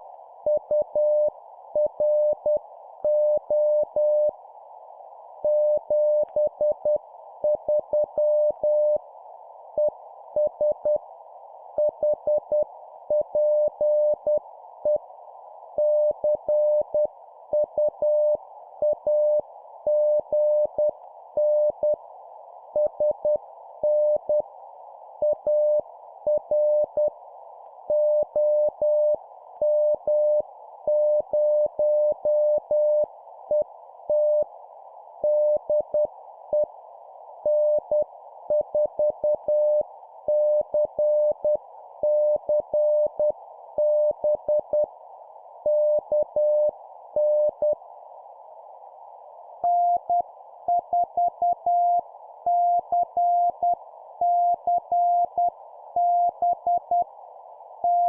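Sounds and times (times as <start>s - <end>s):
filtered radio hiss: 0.0s - 58.0s.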